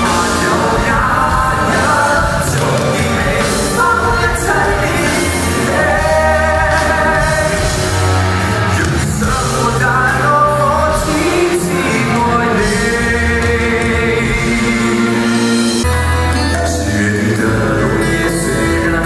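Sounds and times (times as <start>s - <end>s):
band accompaniment: 0.0s - 19.0s
bass line: 0.0s - 19.0s
man singing pop song: 0.0s - 19.0s.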